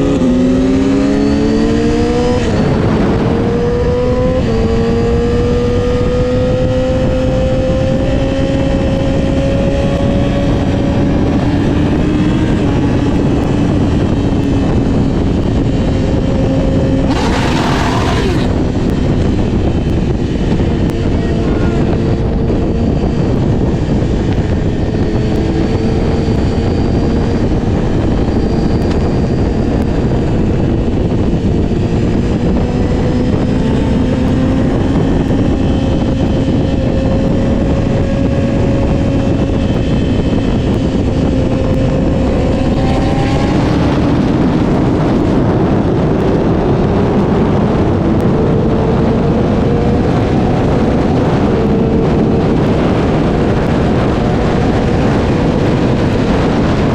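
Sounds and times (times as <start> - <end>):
wind rush on microphone: 0.0 - 56.9.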